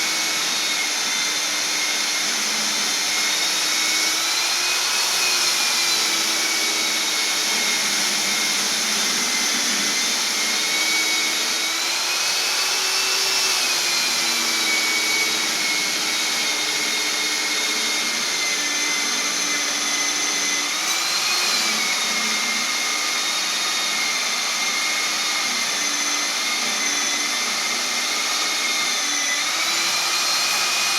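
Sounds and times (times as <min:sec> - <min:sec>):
concrete cutting machine whine: 0:00.0 - 0:30.9.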